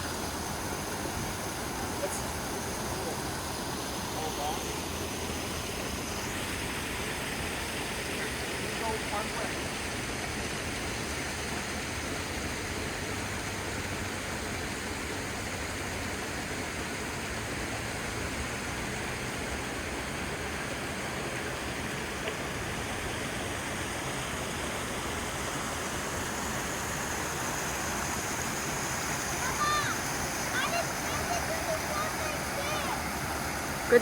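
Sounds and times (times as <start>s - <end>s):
brook water running: 0.0s - 34.0s.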